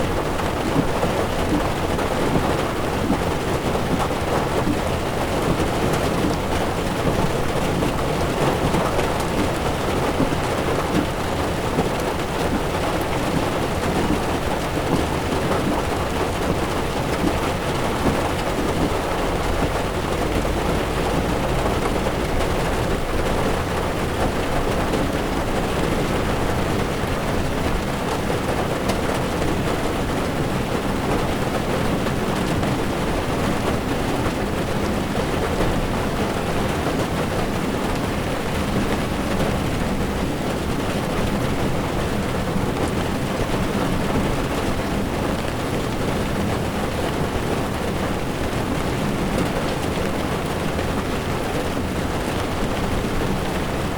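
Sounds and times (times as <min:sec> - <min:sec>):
heavy rain on windshield: 0:00.0 - 0:53.9
tyres on wet road: 0:00.0 - 0:53.9.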